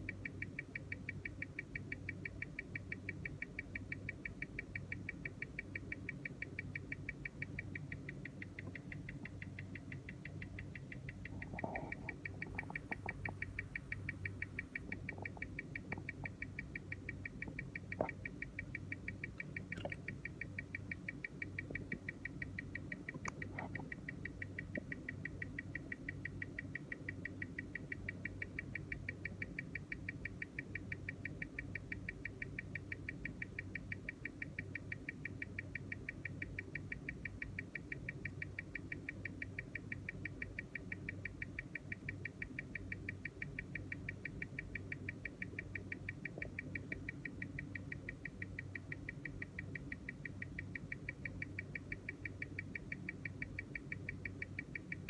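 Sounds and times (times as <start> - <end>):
watch ticking through speaker: 0.0 - 55.0.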